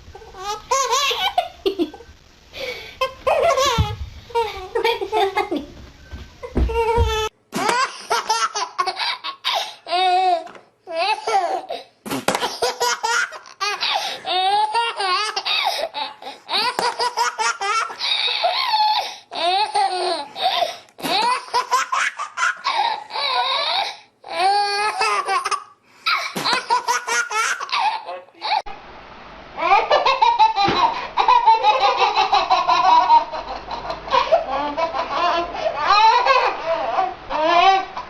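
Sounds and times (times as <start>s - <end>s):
baby laughing: 0.2s - 2.0s, 3.0s - 5.6s, 6.5s - 28.7s, 29.6s - 38.0s.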